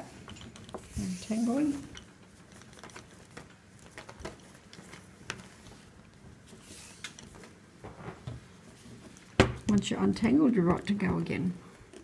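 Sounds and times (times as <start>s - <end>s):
cord ticks and rustles: 0.0s - 12.0s.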